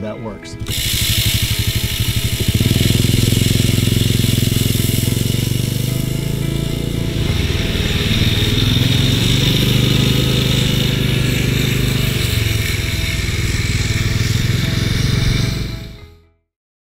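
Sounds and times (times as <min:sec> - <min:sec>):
atv engine running: 0:00.4 - 0:16.1.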